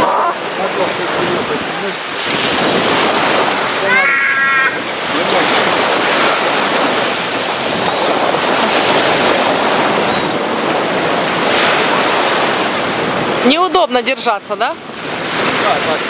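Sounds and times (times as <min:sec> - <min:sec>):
sea surf on beach: 0:00.0 - 0:16.0
wind buffeting microphone: 0:00.0 - 0:16.0.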